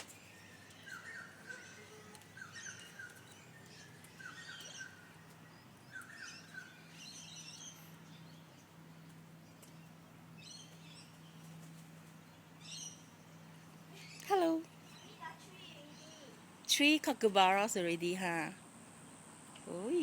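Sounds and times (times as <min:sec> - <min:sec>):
birds chirping: 0:00.0 - 0:20.0
low steady hum: 0:00.0 - 0:20.0.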